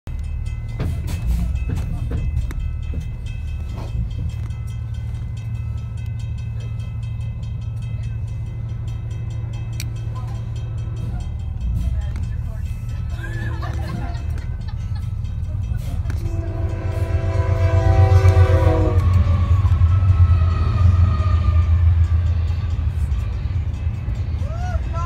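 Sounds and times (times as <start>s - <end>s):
bus engine idling: 0.1s - 25.0s.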